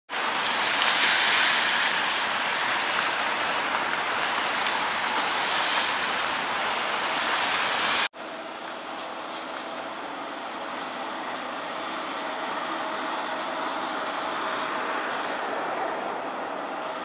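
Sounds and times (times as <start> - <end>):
outdoor background noise: 0.1 - 17.0
tram passing: 0.1 - 17.0.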